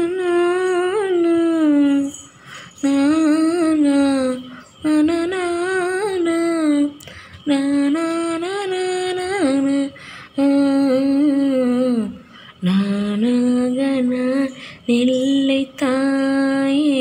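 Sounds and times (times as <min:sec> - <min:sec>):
woman singing wordless tune: 0:00.0 - 0:17.0.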